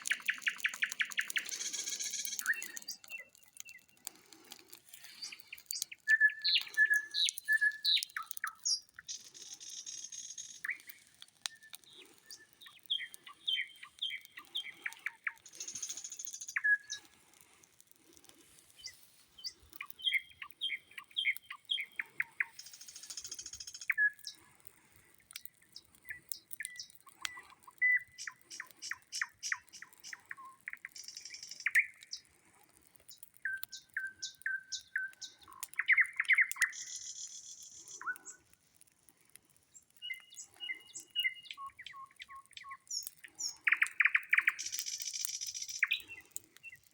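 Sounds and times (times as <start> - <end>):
nightingale singing: 0.0 - 3.9, 4.9 - 17.1, 18.8 - 24.4, 26.0 - 32.2, 33.4 - 38.4, 40.0 - 46.8.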